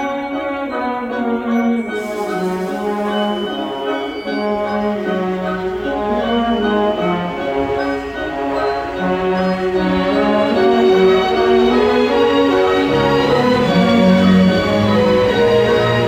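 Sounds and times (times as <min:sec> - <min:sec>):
orchestral music: 0:00.0 - 0:16.0.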